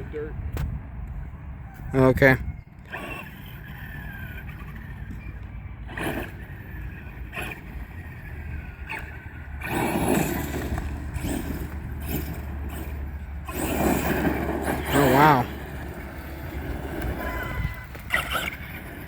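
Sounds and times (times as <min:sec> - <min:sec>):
tyres churning through dirt: 0:02.0 - 0:19.0
toy truck motor whine: 0:02.8 - 0:19.0.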